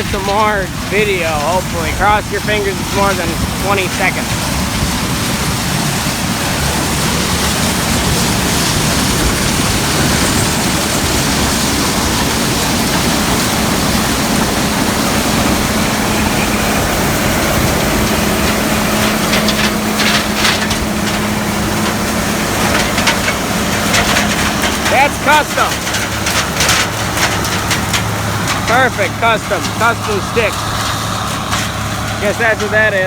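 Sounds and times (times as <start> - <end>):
rattles: 0.0 - 5.6, 6.5 - 33.0
combine harvester running: 0.0 - 33.0.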